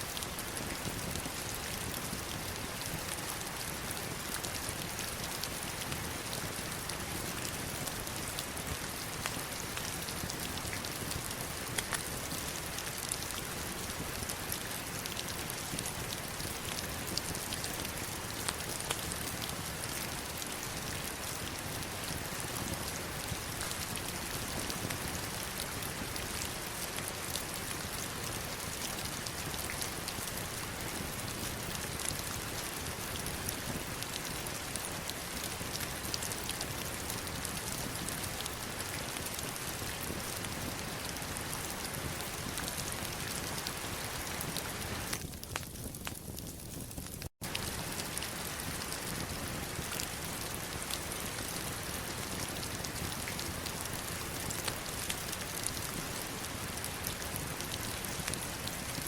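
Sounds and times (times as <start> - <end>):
heavy rain on stones and water: 0.0 - 59.0.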